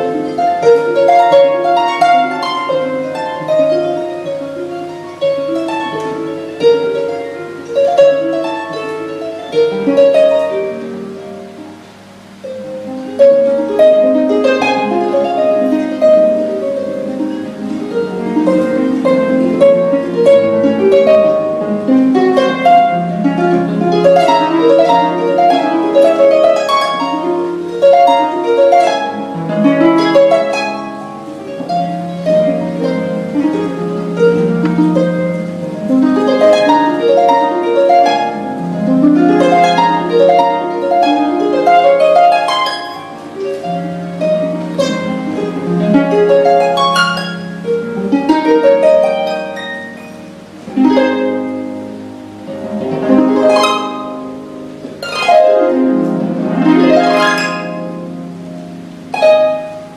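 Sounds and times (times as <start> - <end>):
harp arpeggios: 0.0 - 59.9.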